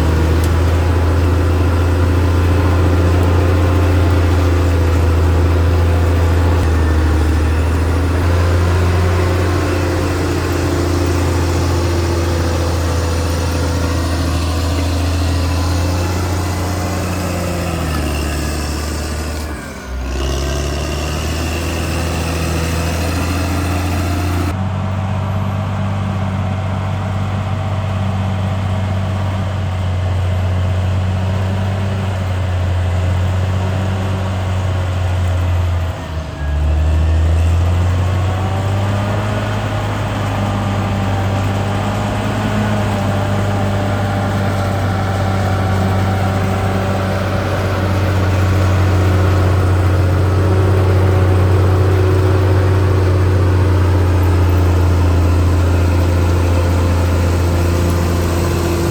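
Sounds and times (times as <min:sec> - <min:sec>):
bulldozer diesel engine humming: 0:00.0 - 0:58.9.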